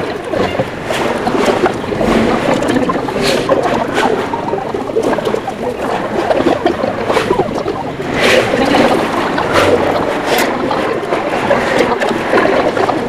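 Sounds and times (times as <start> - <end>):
murmur of chatter: 0.0 - 13.0
rushing noise: 0.0 - 13.0.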